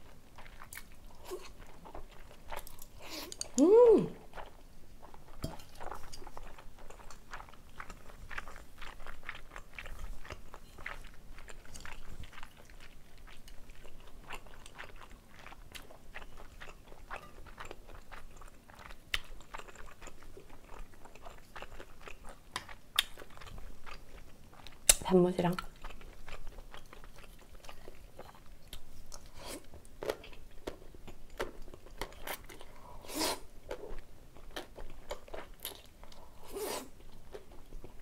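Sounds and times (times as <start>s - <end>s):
chewing noodles with mouth smacks: 0.0s - 25.0s, 25.6s - 38.0s.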